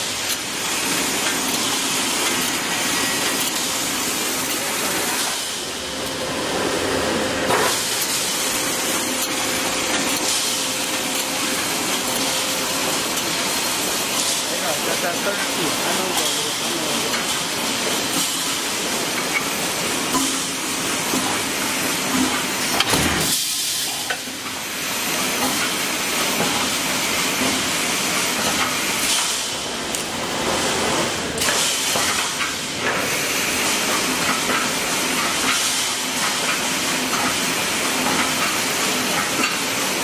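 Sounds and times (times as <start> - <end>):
welding machine hissing and sizzling: 0.0 - 40.0.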